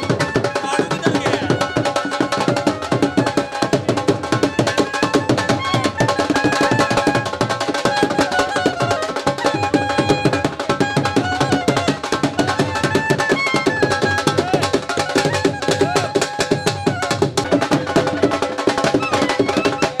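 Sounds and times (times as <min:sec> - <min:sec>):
drums beating fast: 0:00.0 - 0:20.0.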